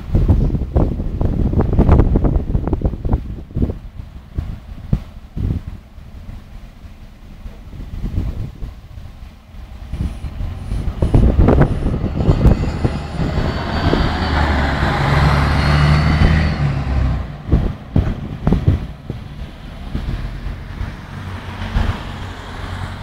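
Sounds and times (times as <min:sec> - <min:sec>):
bus diesel engine pulling away: 0:00.0 - 0:23.0.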